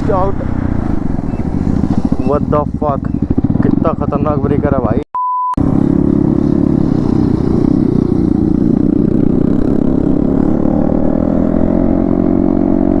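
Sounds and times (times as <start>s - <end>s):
motorcycle engine running: 0.0s - 5.0s, 5.6s - 13.0s.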